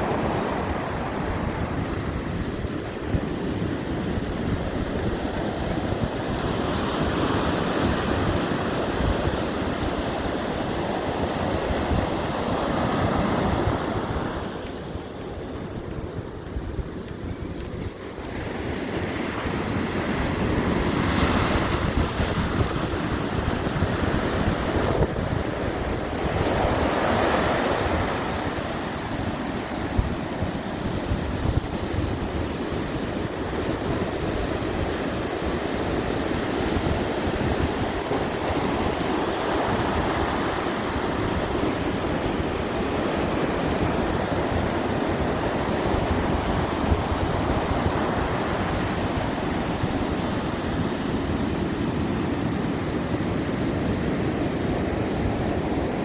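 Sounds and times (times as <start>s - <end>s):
ocean waves breaking: 0.0s - 56.0s
wind buffeting microphone: 0.0s - 56.0s.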